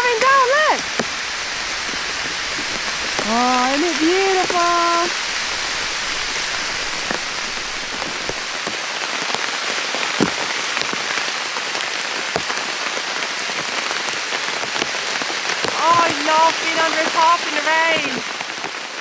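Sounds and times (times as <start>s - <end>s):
heavy rain on a tarp: 0.0s - 19.0s
raindrop ticks and taps: 0.0s - 19.0s.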